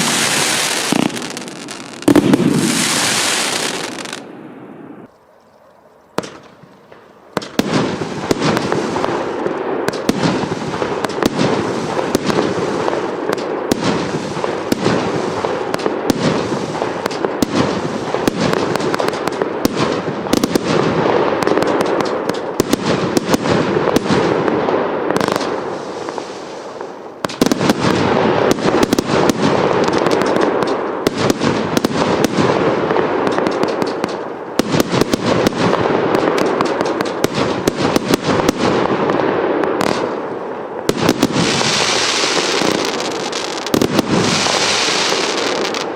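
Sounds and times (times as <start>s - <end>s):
firework reports and crackles: 0.0s - 5.1s, 6.2s - 45.9s.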